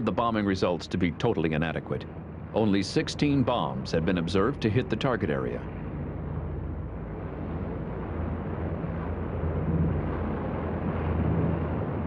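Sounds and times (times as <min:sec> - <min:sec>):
propeller aircraft engines droning: 0:00.0 - 0:12.0
rumbling noise: 0:00.0 - 0:12.0.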